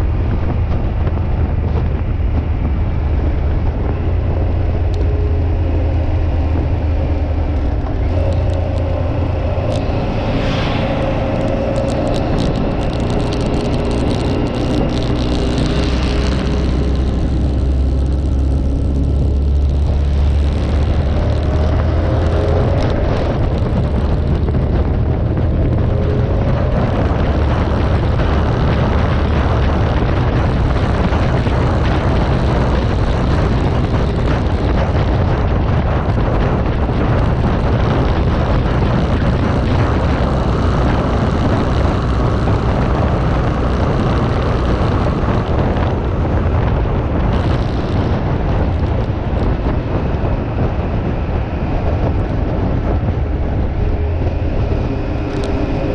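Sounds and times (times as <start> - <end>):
motorcycle engine rumble: 0.0 - 55.9
rushing noise: 0.0 - 55.9.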